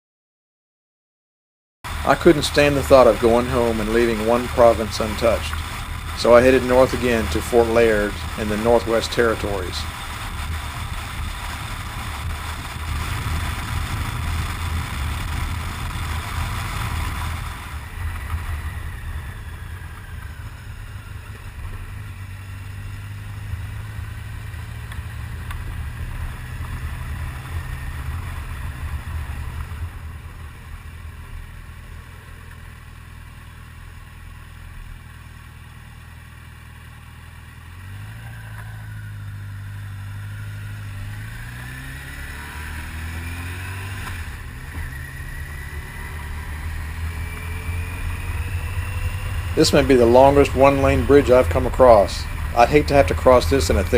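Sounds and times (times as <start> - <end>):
motorcycle engine running: 1.9 - 53.9.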